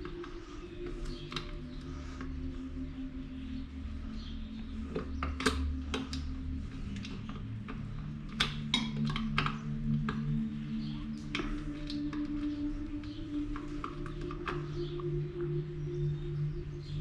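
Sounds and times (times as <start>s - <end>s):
music of held low tones: 0.0s - 17.0s.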